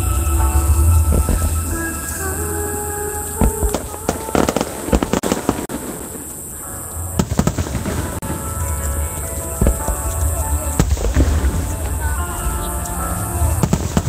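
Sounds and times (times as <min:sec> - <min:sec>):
fireworks bursting: 0:00.0 - 0:14.0
music playing: 0:00.0 - 0:14.0.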